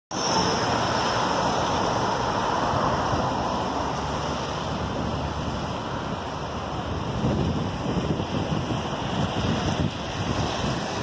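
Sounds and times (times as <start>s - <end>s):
car tyres hissing on wet street: 0.1s - 11.0s
steady rain: 0.1s - 11.0s.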